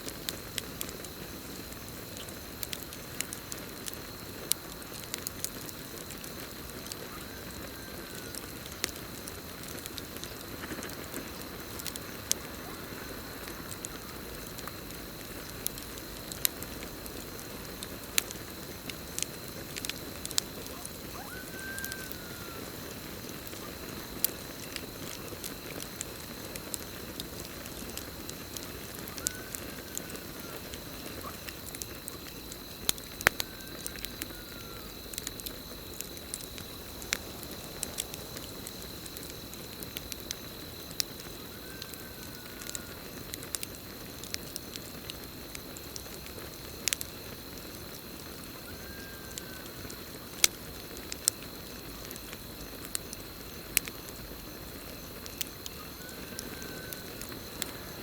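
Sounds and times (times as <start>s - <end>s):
campfire crackling: 0.0s - 58.0s
crickets trilling: 0.0s - 58.0s.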